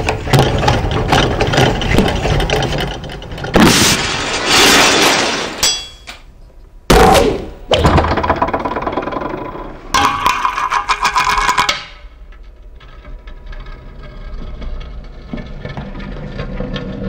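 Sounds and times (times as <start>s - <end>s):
scraping and rattling: 0.0s - 6.1s, 8.0s - 17.0s.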